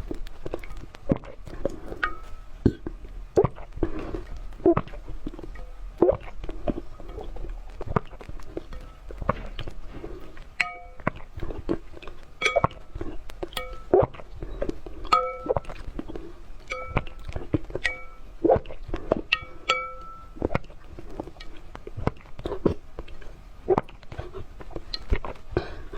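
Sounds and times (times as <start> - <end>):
eggshell crunching: 0.0 - 25.6
animal chewing and lapping: 0.0 - 25.9.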